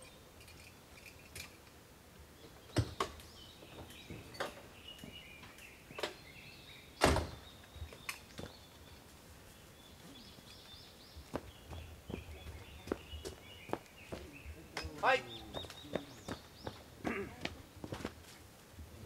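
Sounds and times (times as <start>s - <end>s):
birds chirping faintly: 0.0s - 17.8s.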